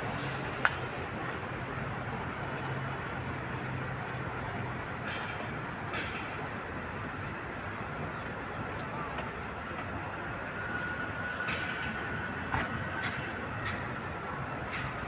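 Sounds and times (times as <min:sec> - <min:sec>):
city noise: 0:00.0 - 0:15.0
metro train running: 0:00.0 - 0:15.0.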